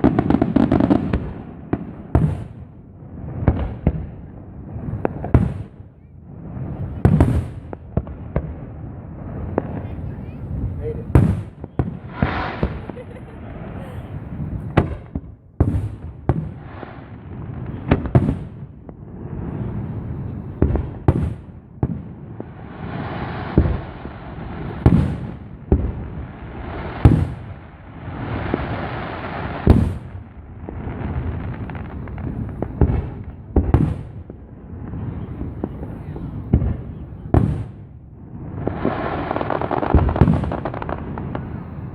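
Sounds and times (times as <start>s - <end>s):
firework crackling hiss: 0.0s - 41.9s
firework shells booming: 0.0s - 41.9s.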